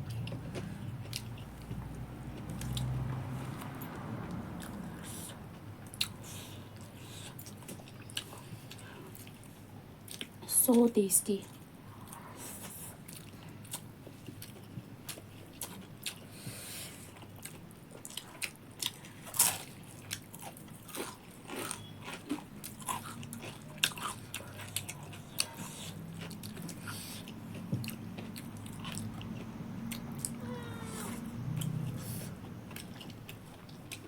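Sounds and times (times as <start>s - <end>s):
person chewing crunchy food: 0.0s - 10.4s, 11.5s - 34.0s.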